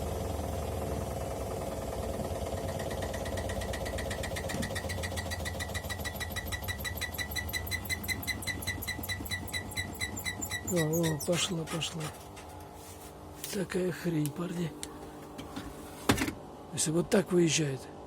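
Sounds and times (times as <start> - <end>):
washing machine spin hum: 0.0 - 18.0.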